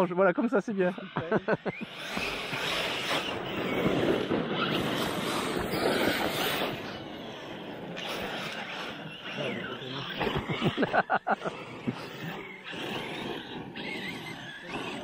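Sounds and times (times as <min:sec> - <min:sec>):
rc trucks tyres and drivetrain rushing: 0:00.0 - 0:15.0.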